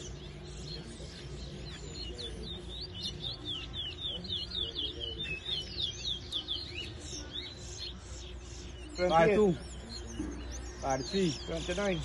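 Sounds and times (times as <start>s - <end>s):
finch singing whistled notes: 0.0s - 12.0s.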